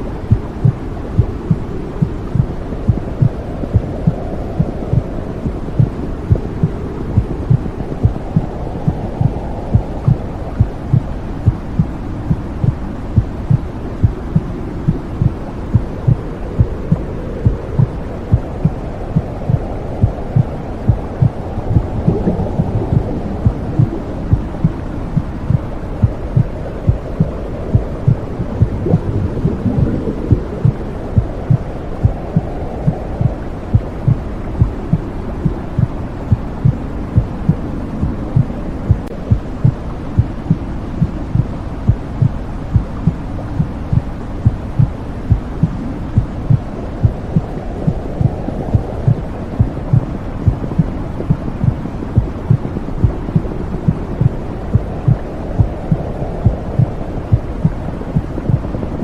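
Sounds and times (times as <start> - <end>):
low whooshing hum: 0.0 - 59.0
muffled heartbeat thudding: 0.3 - 58.9.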